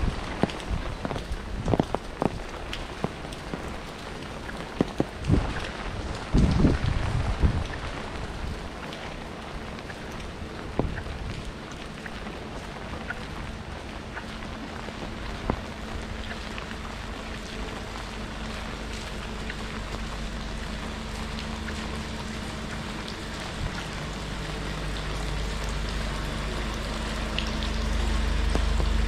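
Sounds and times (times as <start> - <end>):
low vehicle engine rumble: 0.0 - 29.0
steady rain falling: 0.0 - 29.0.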